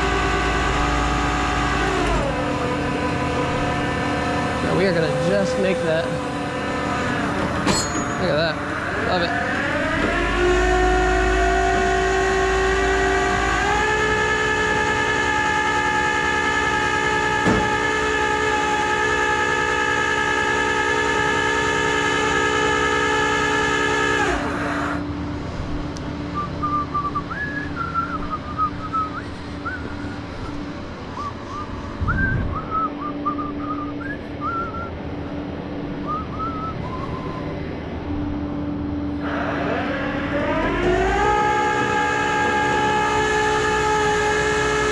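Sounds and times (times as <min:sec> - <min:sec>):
hydraulic pump whining: 0:00.0 - 0:25.2, 0:25.8 - 0:44.9
low engine hum: 0:00.0 - 0:44.9.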